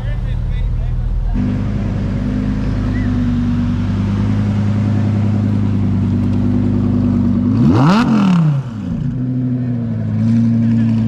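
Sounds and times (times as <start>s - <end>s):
car engine idling: 0.0s - 11.0s
engine revving: 1.3s - 11.0s.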